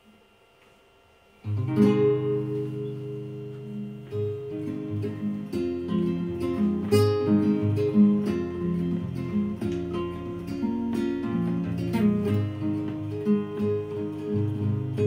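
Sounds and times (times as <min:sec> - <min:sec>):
strummed guitar chords: 0:01.4 - 0:15.0.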